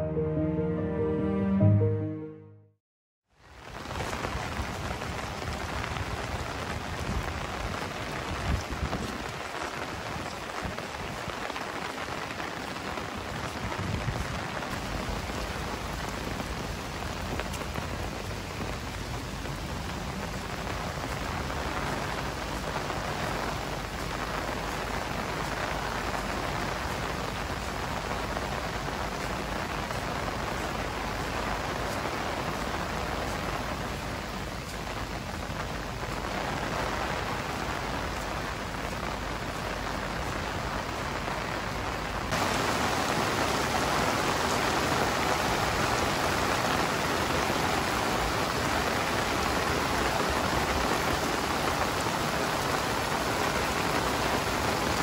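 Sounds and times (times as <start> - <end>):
heavy rain on hard surfaces: 3.3 - 55.0.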